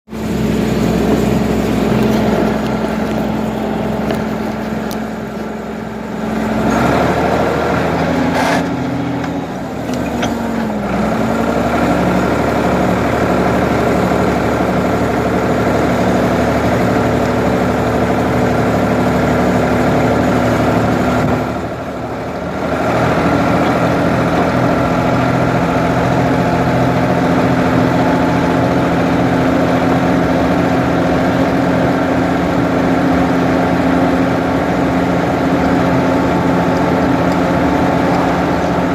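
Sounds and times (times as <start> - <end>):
backhoe engine running: 0.1 - 38.9.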